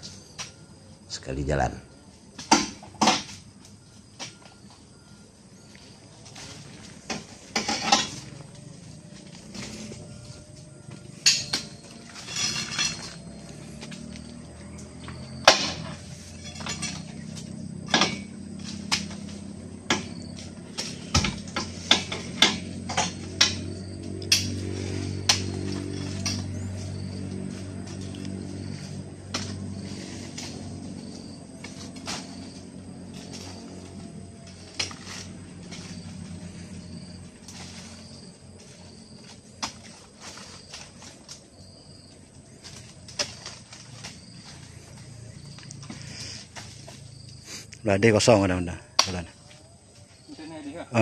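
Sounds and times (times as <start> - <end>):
faint low hum: 0.0 - 51.0
insects chirping: 0.0 - 51.0.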